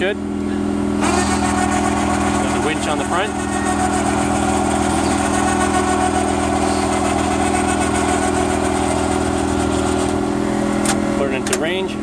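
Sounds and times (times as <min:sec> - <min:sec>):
utility vehicle engine idling: 0:00.0 - 0:12.0.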